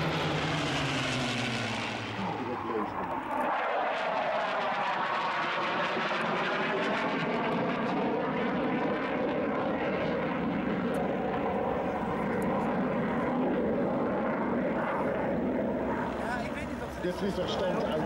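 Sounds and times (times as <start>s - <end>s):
jet flying past: 0.0s - 18.0s.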